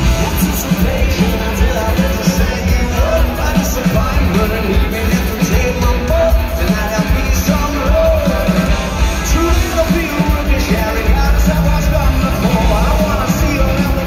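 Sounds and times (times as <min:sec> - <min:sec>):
bass guitar: 0:00.0 - 0:14.0
drums: 0:00.0 - 0:14.0
electric guitar: 0:00.0 - 0:14.0
man singing: 0:00.0 - 0:14.0.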